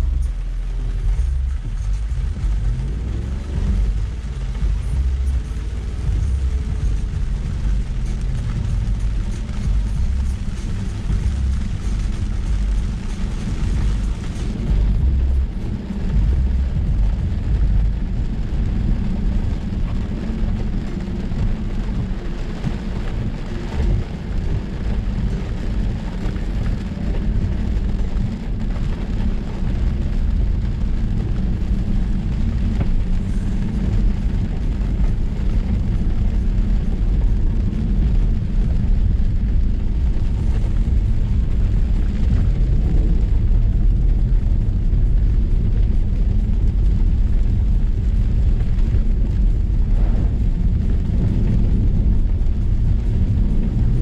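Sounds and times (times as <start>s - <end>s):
rain on car body: 0.0s - 54.0s
tyres rumbling on dirt track: 0.0s - 54.0s.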